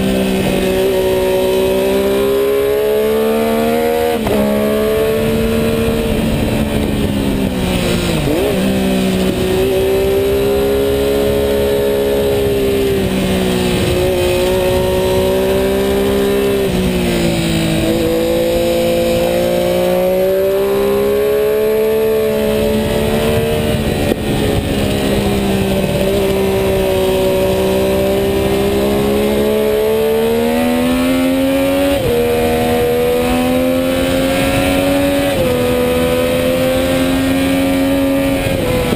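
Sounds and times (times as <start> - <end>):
motorcycle engine at racing speed: 0.0 - 38.9.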